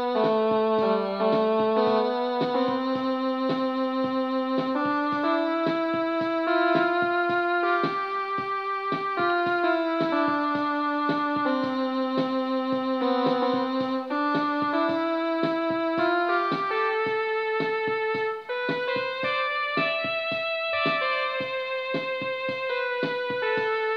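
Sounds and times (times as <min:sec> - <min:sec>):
accompaniment beat: 0:00.0 - 0:23.9
electronic keyboard melody: 0:00.0 - 0:23.9.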